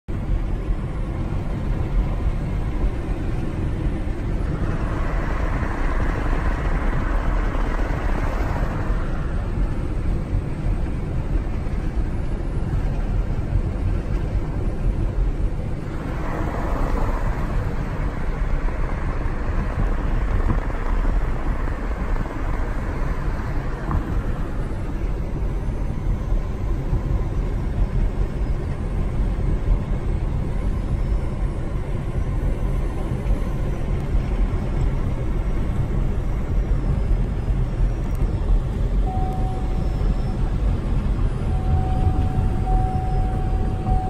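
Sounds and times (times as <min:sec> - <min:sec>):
car road noise rumble: 0:00.1 - 0:44.0.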